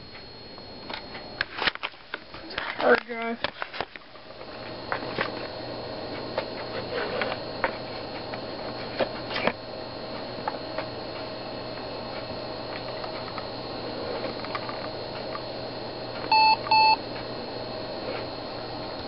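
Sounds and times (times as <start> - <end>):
hard drive seek clicks: 0.0 - 17.4
steady hum: 0.0 - 19.0.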